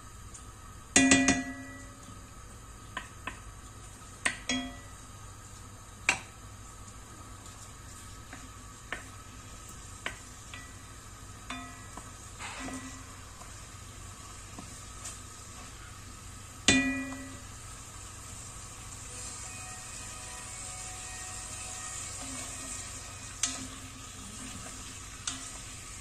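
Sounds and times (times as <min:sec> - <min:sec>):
faint frying sizzle: 0:00.0 - 0:26.0.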